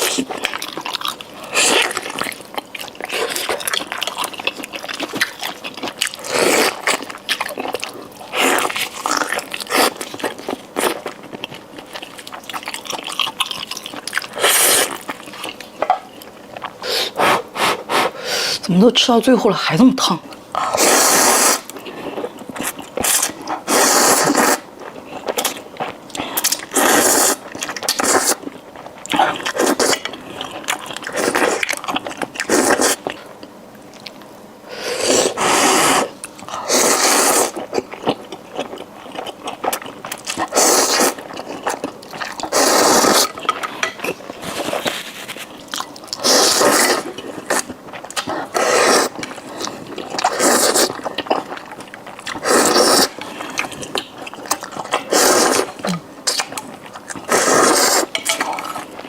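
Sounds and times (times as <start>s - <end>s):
chewing and slurping: 0.0s - 18.6s, 20.6s - 34.2s, 34.8s - 59.0s.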